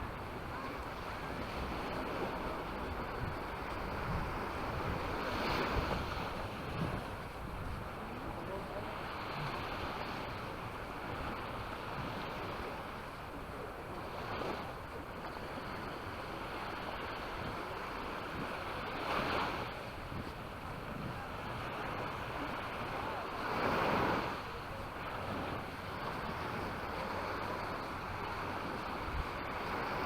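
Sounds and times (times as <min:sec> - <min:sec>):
small waves washing up shore: 0:00.0 - 0:30.0
wind rumbling on microphone: 0:00.0 - 0:30.0.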